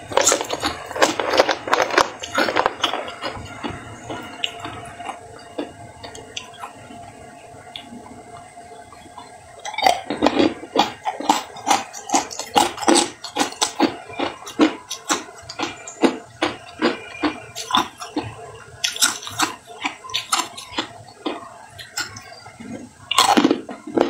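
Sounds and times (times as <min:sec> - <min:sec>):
ice cubes crunching and clinking: 0:00.1 - 0:06.8, 0:09.7 - 0:18.2, 0:18.8 - 0:22.4, 0:23.1 - 0:24.0.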